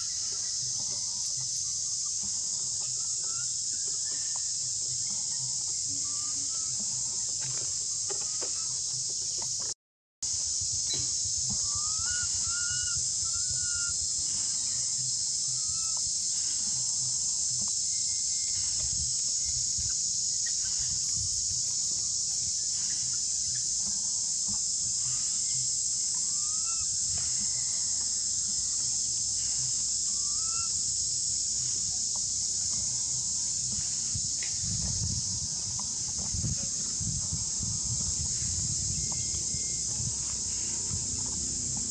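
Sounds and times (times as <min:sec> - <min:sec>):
high-pitched insect drone: 0:00.0 - 0:41.9
short rising insect calls: 0:00.0 - 0:41.9.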